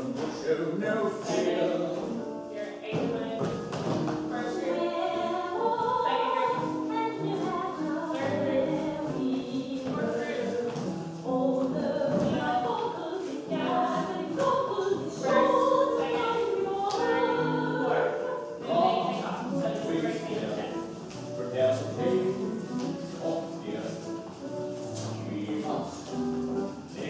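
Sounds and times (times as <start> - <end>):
group of voices singing: 0.0 - 24.2.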